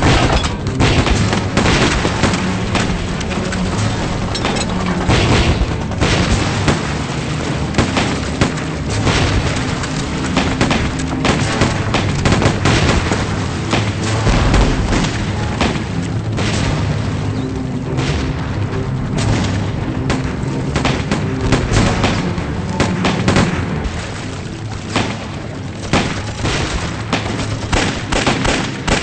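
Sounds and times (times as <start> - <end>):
dramatic music: 0.0 - 29.0
explosions: 0.0 - 29.0
gunfire: 0.0 - 29.0.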